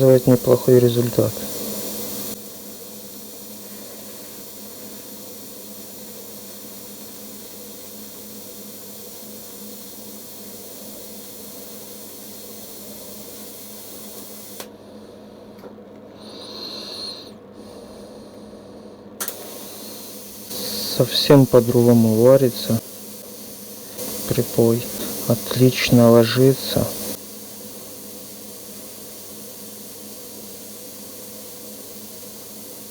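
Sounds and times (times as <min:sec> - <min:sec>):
welding torch hissing: 0:00.0 - 0:14.7, 0:16.2 - 0:17.4, 0:19.2 - 0:32.9.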